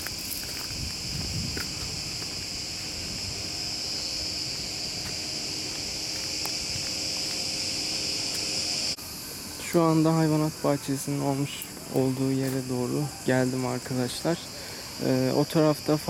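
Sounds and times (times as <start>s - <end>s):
cicadas shrilling: 0.0s - 16.0s.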